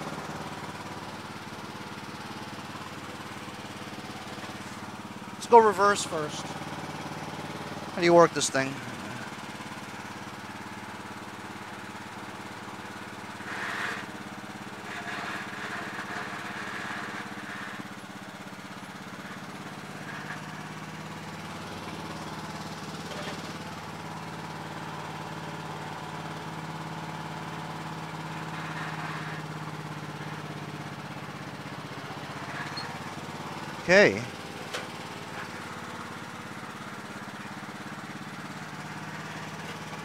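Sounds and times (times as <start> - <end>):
lawn tractor engine running: 0.0 - 40.0.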